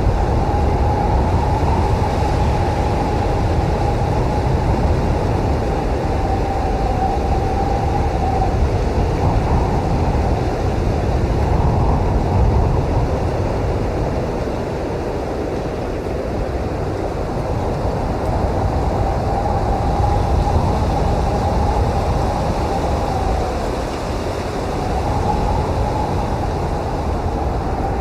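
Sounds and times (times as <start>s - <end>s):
blizzard wind blowing: 0.0s - 28.0s.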